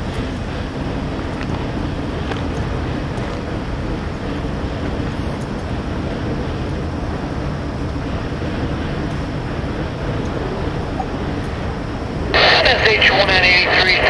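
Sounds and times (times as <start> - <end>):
distant freight train rumble: 0.0 - 14.0.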